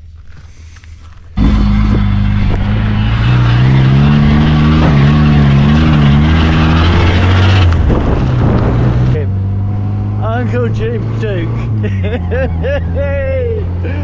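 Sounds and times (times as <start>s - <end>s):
car engine running under load: 1.2s - 14.0s.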